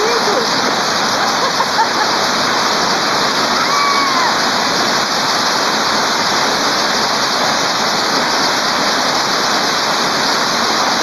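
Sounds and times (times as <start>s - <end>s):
heavy rain with hail: 0.0s - 11.0s.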